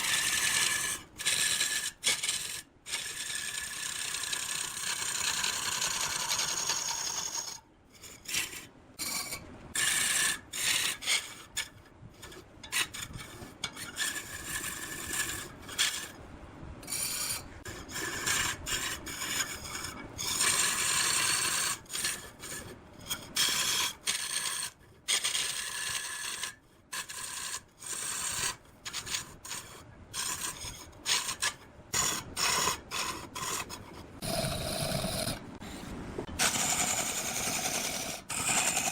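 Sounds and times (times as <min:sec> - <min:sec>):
tool rasping on wood: 0:00.0 - 0:16.2, 0:16.8 - 0:38.9.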